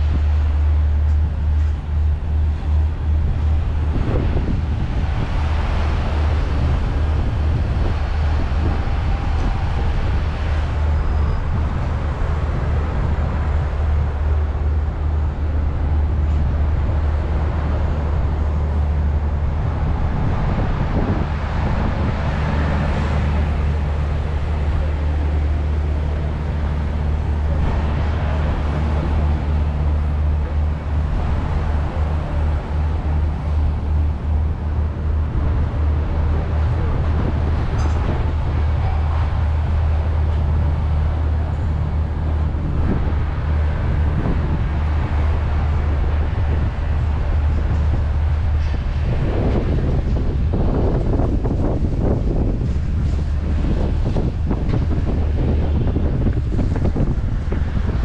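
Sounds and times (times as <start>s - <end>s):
city road traffic: 0.0s - 58.0s
vehicles passing: 0.0s - 58.0s.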